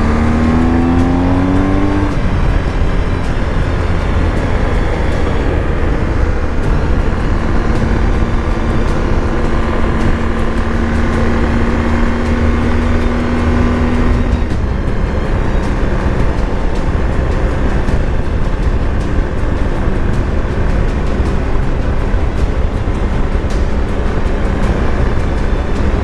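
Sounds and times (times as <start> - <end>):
low rumble of riding noise: 0.0 - 26.0
motorcycle engine cruising: 0.0 - 26.0.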